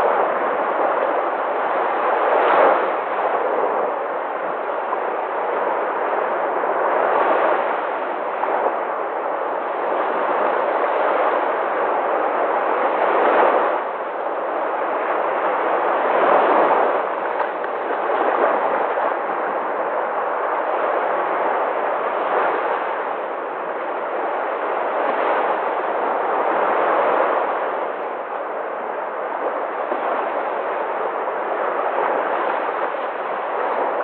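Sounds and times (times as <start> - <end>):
sea waves breaking on shore: 0.0 - 34.0.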